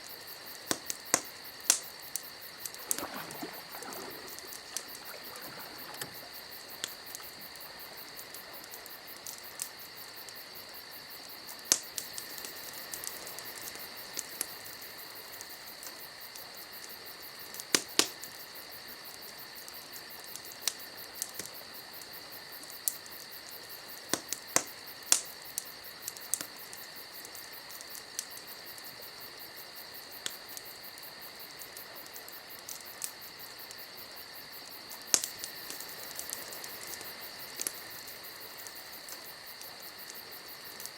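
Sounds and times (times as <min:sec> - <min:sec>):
campfire crackling and popping: 0:00.1 - 0:29.1, 0:29.9 - 0:33.9, 0:34.6 - 0:40.9.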